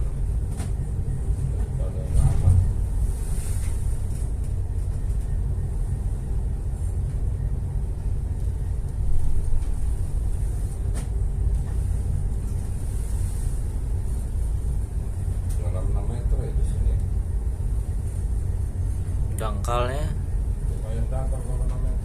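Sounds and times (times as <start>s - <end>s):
ship engine rumbling: 0.0s - 22.0s.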